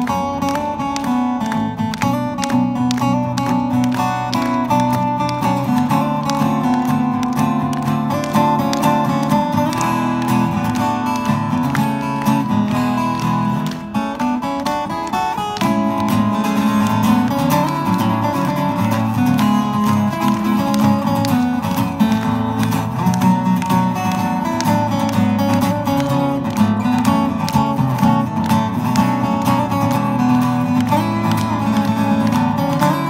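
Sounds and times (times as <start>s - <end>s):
picked guitar melody: 0.0s - 33.0s.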